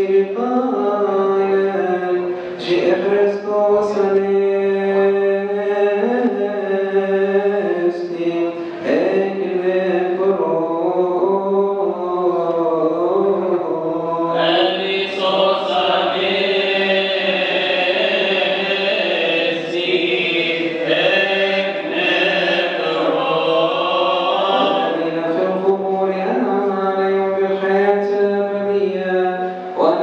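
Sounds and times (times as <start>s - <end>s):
men singing liturgical chant: 0.0s - 13.2s, 14.2s - 28.0s.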